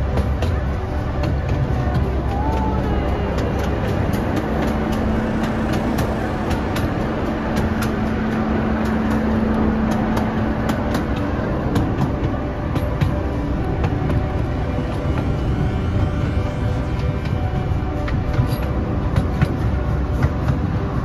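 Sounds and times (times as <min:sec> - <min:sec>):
miniature train rumbling: 0:00.0 - 0:21.0
steady low hum: 0:00.0 - 0:21.0
wheels clicking on rails: 0:00.0 - 0:21.0.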